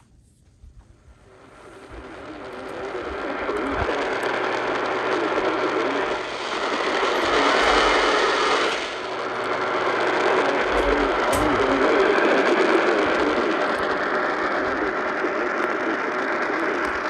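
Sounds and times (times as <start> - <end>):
faint low hum: 0.0 - 17.0
radio static crackling hiss: 0.0 - 17.0.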